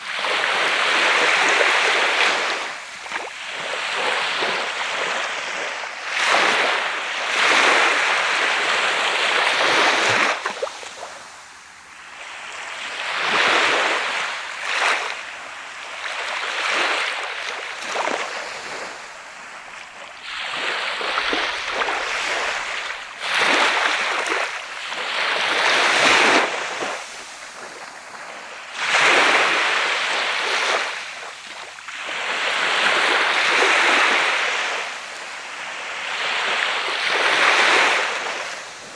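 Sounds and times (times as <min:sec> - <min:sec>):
waves breaking on sandy beach: 0:00.0 - 0:38.9.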